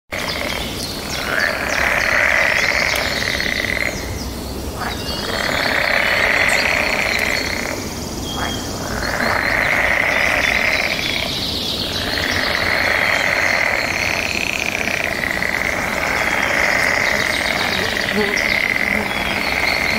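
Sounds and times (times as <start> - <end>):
buzzing chorus: 0.1 - 19.9
high sweeping bird calls: 0.1 - 19.9.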